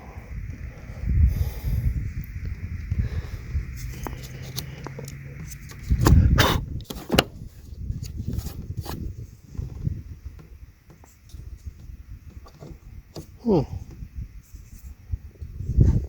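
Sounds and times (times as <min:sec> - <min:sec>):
rough handling noise: 0:02.0 - 0:16.0.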